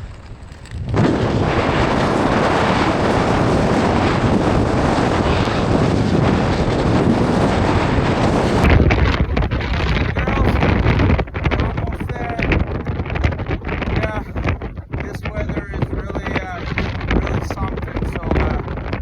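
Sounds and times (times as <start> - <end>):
blizzard wind buffeting microphone: 0.0 - 19.0.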